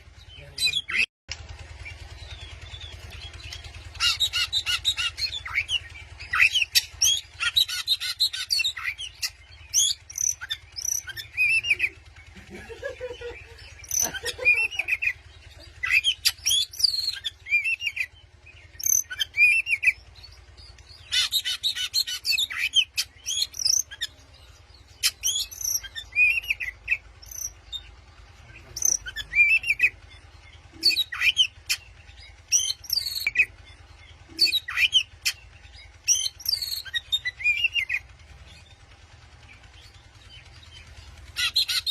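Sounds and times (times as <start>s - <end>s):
bird fast chatter: 0.0s - 41.9s
bird whistled song: 2.2s - 12.0s, 13.0s - 15.2s, 15.8s - 27.9s, 28.7s - 38.8s, 39.5s - 41.9s.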